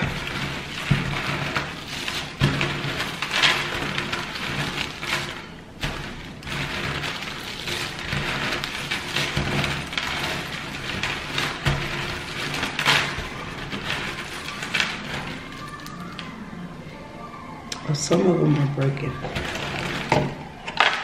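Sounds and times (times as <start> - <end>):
puzzle pieces rattling on wood: 0.0 - 16.3, 18.2 - 21.0.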